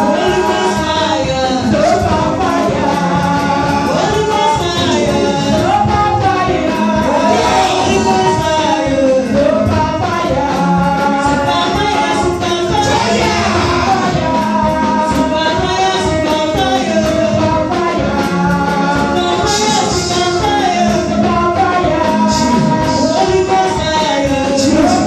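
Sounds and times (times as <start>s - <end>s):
band music with singing: 0.0s - 25.0s.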